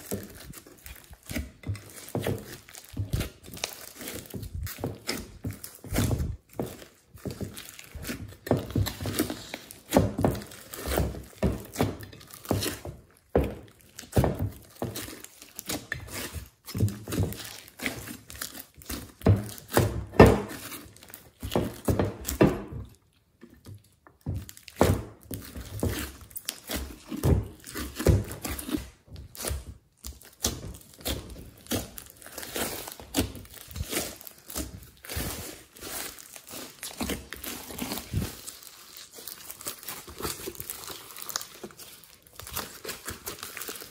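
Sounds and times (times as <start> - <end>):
slime squelching: 0.0 - 43.9.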